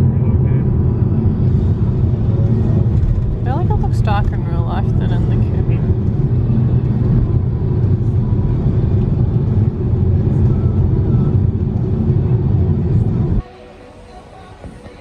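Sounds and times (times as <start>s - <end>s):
road and engine rumble in car cabin: 0.0s - 13.5s.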